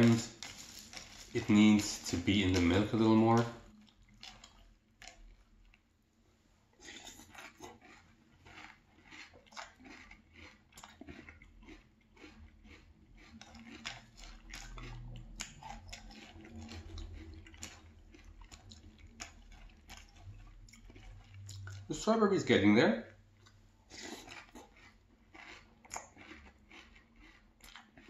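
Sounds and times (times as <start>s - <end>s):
faint crunching of cereal: 0.0s - 5.9s, 6.7s - 22.6s, 23.4s - 28.0s.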